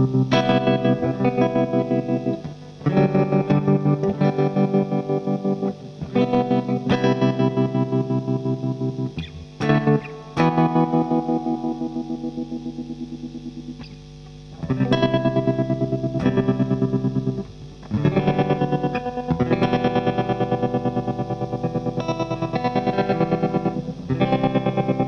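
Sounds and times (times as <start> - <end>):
electric guitar chords with tremolo: 0.0 - 25.0.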